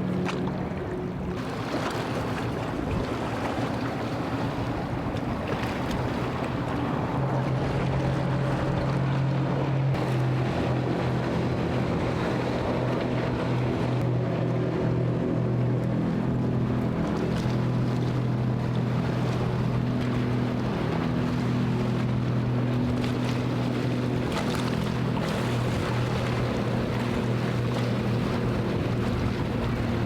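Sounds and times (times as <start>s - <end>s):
boat engine humming: 0.0s - 30.0s
waves washing: 0.0s - 30.0s
wind on microphone: 2.5s - 30.0s.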